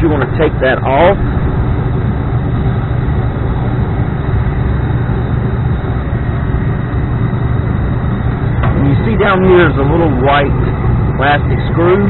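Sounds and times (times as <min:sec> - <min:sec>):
gas furnace humming and rushing: 0:00.0 - 0:12.0.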